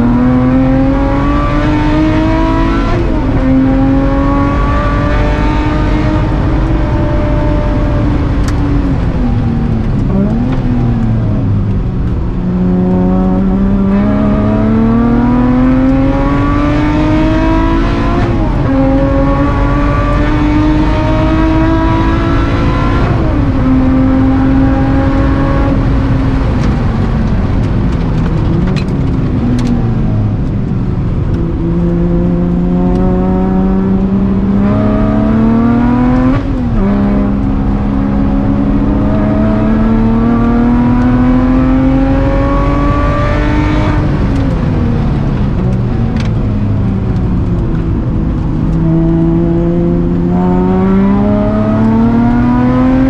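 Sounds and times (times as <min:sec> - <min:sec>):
car engine revving from inside cabin: 0:00.0 - 0:30.4, 0:31.2 - 0:44.8, 0:45.4 - 0:53.0.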